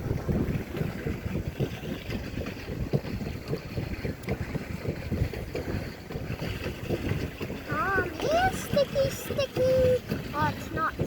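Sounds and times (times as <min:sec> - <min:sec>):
water washing: 0:00.0 - 0:11.0
wind buffeting microphone: 0:00.0 - 0:11.0.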